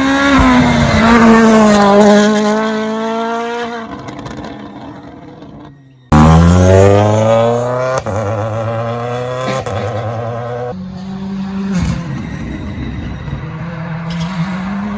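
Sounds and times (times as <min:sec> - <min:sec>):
rally car engine accelerating: 0:00.0 - 0:05.5, 0:06.1 - 0:14.9.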